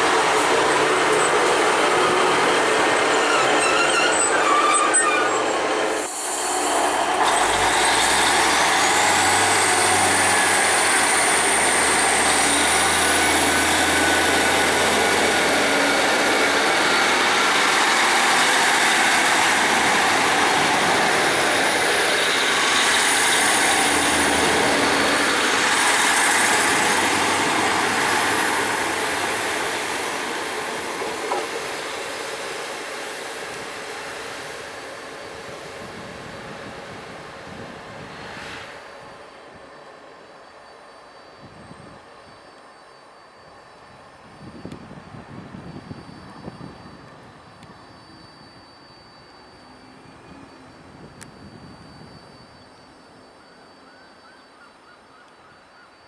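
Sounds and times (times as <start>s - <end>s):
rising engine whine: 0.0s - 54.2s
train wheels on rails: 0.0s - 54.7s
diesel train engines under power: 0.0s - 56.0s.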